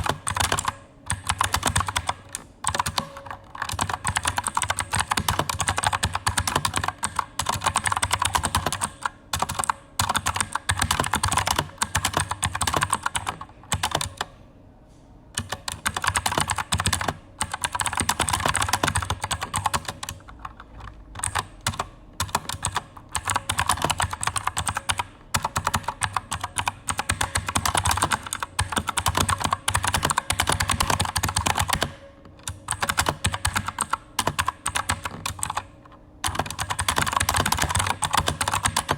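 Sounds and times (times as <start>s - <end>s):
fast typing on clicky keyboard: 0.0s - 14.3s, 15.4s - 38.9s.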